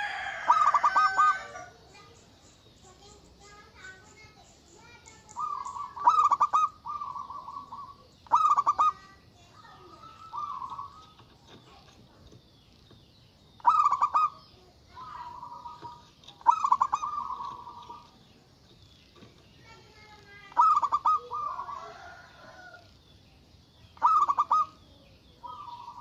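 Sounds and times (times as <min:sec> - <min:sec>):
dove cooing: 0:00.0 - 0:02.1, 0:02.9 - 0:12.0, 0:13.6 - 0:18.2, 0:19.8 - 0:22.9, 0:24.0 - 0:26.0
small birds chirping: 0:00.0 - 0:26.0.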